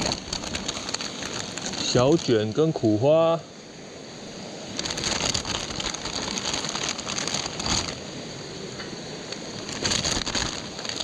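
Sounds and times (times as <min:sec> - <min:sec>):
fish sizzling: 0:00.0 - 0:03.0, 0:04.0 - 0:11.0.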